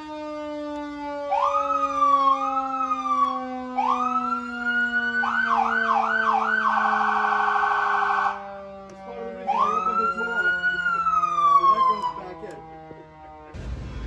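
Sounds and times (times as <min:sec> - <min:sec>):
electronic siren cycling tones: 0:00.0 - 0:13.6
low siren winding down: 0:00.0 - 0:14.0.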